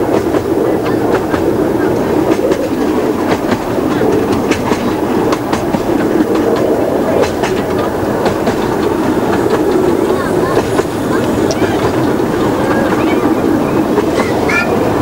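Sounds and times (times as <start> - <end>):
train wheels rumbling: 0.0 - 15.0
wheels clicking over rail joints: 0.0 - 15.0.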